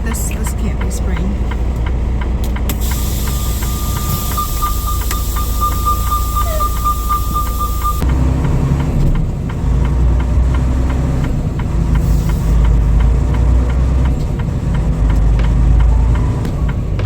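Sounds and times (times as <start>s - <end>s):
diesel truck engine rumbling: 0.0s - 17.0s
light ticking: 0.0s - 17.0s.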